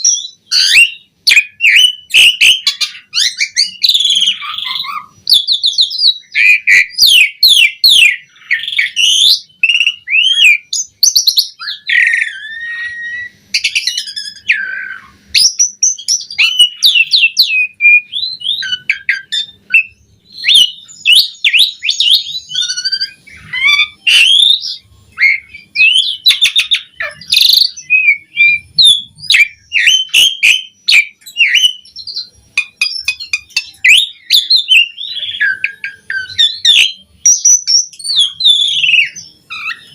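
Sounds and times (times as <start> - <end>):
starling singing whistles and trills: 0.0 - 39.9.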